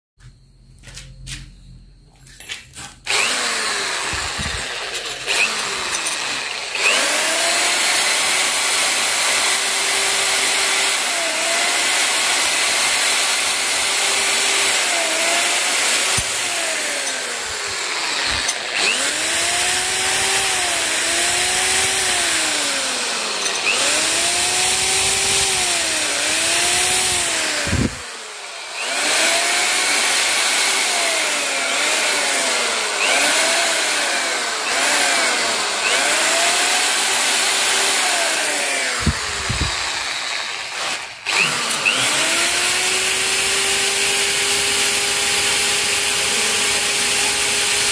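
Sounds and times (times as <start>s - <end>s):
electric drill wire brush scraping: 2.2s - 47.9s.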